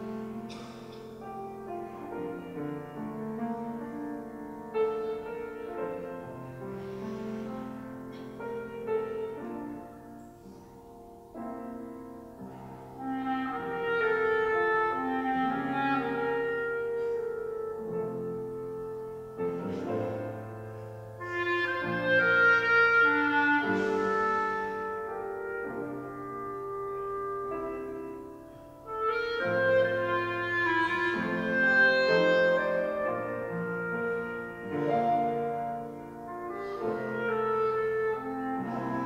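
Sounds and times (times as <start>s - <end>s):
clarinet melody: 0.0s - 39.0s
piano playing: 0.0s - 39.0s.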